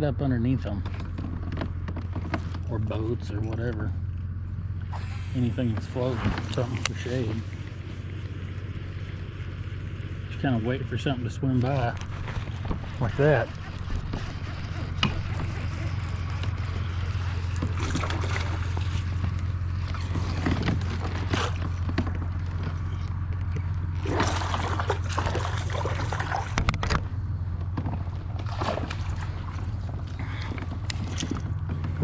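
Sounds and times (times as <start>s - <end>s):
steady low hum: 0.0s - 32.0s
water sloshing against kayak: 4.8s - 27.0s, 27.6s - 32.0s.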